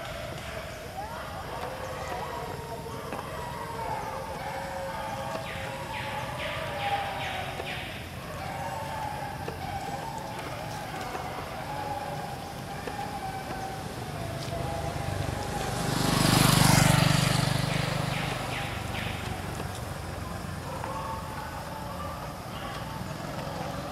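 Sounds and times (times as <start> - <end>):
motor vehicle passing by: 0.0 - 23.9.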